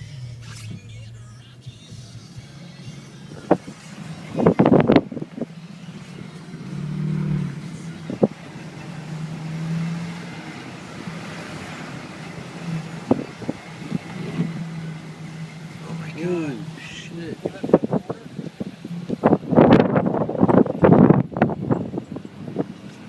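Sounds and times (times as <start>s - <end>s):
engine hum: 0.0s - 23.0s
road noise: 0.0s - 23.0s.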